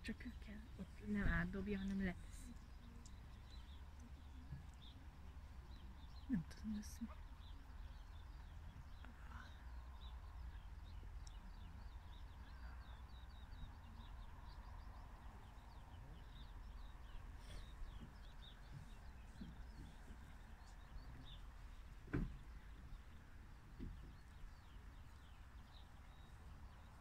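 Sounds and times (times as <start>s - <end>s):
low steady rumble: 0.0s - 22.0s
small birds twittering: 0.0s - 27.0s.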